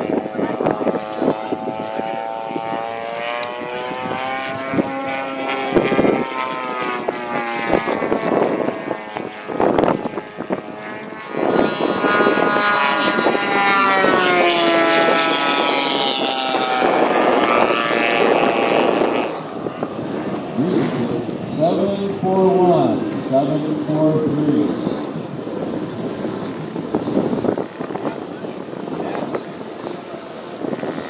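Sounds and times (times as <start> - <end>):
model airplane engines droning: 0.0 - 31.0.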